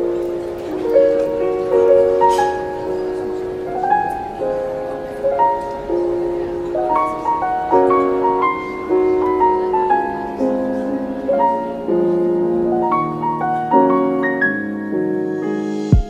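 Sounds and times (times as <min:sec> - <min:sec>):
lo-fi piano music: 0:00.0 - 0:16.0.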